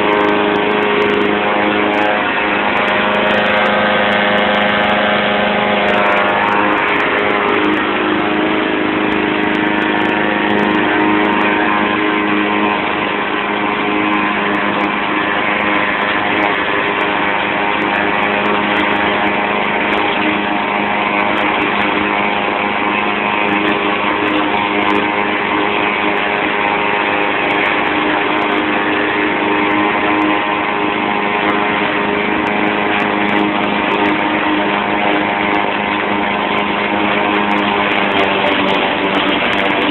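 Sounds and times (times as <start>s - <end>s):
push mower engine mowing grass: 0.0s - 39.9s.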